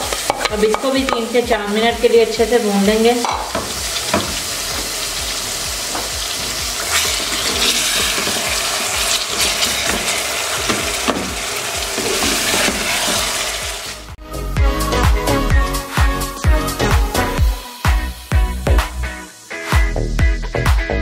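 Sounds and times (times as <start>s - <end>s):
meat and onions sizzling in oil: 0.0s - 14.2s, 16.0s - 20.0s
background music: 0.0s - 21.0s.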